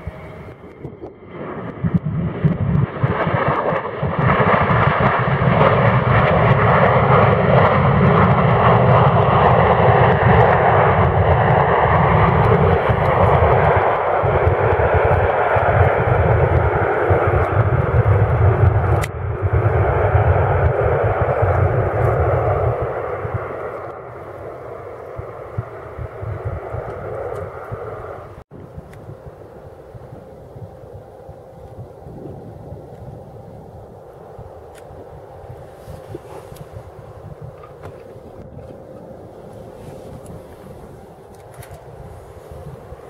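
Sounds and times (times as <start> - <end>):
jet engines reverse thrust: 0.0 - 43.0.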